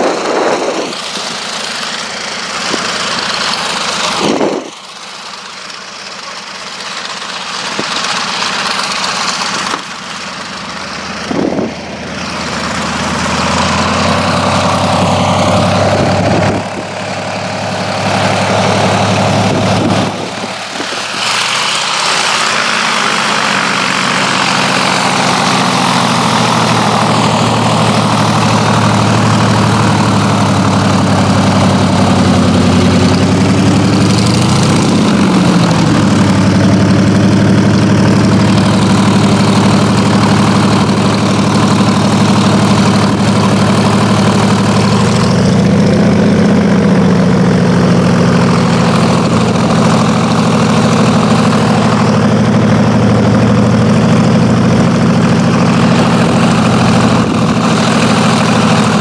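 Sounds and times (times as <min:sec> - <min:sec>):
radial aircraft engine running: 0:00.0 - 0:59.0.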